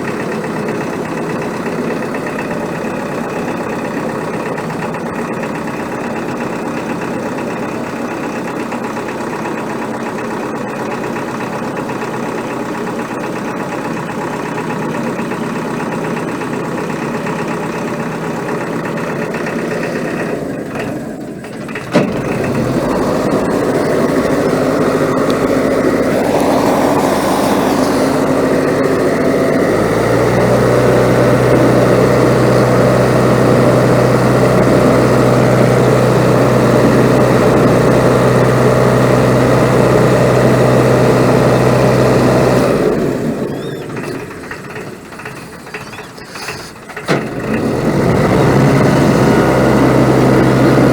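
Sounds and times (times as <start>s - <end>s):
barge engine running: 0.0s - 50.9s.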